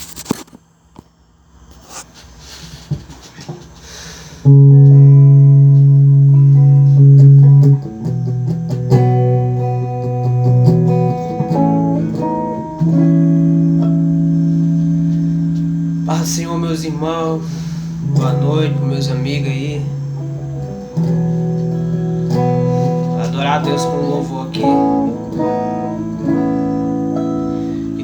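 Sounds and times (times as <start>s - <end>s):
loud sustained instrumental chords: 4.5s - 28.0s.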